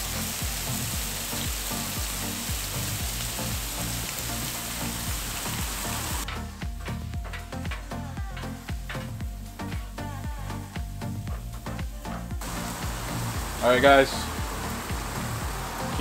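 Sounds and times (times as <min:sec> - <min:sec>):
background music with a beat: 0:00.0 - 0:16.0
meat sizzling on a griddle: 0:00.0 - 0:16.0.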